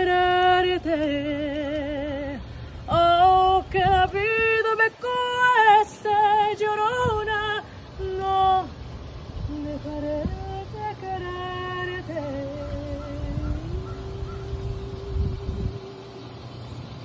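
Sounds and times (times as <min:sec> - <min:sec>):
woman singing slow melody: 0:00.0 - 0:17.0.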